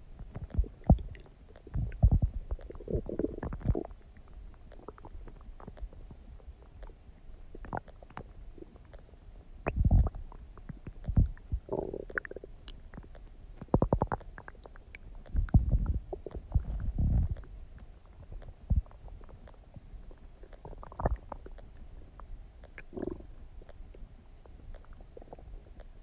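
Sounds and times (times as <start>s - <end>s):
stomach gurgling and rumbling: 0.0s - 26.0s.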